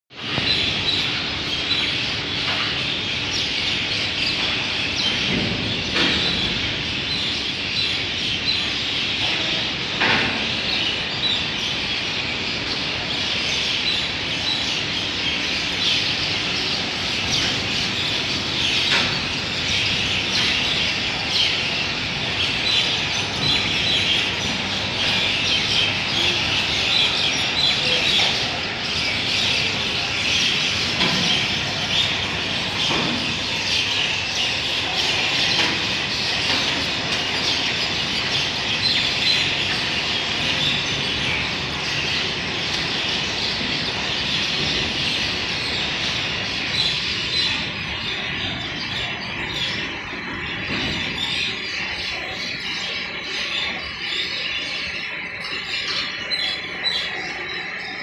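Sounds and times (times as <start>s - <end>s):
small birds chirping: 0.1s - 58.0s.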